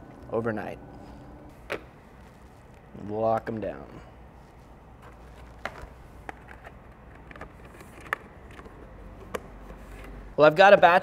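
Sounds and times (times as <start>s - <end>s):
low steady hum: 0.0s - 10.5s.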